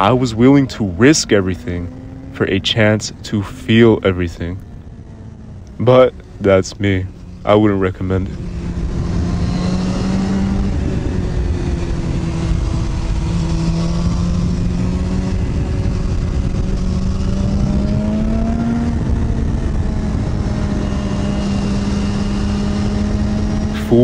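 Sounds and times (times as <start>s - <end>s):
motorcycle engine running: 0.0s - 24.0s
wind rumble: 0.0s - 24.0s.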